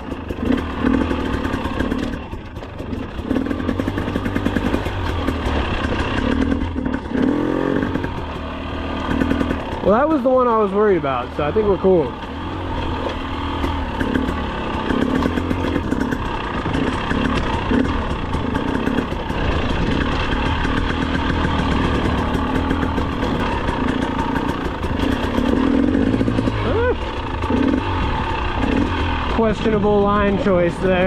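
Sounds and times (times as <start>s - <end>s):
two-stroke engine running: 0.0s - 31.0s.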